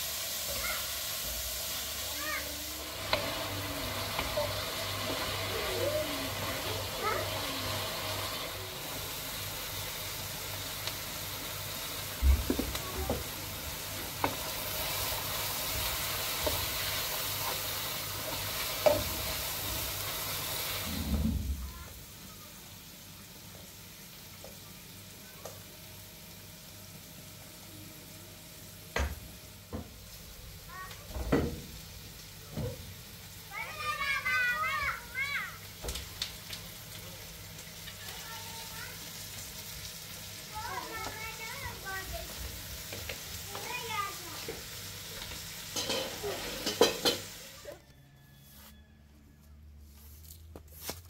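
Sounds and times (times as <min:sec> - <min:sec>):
vegetables sizzling in frying pan: 0:00.0 - 0:47.8.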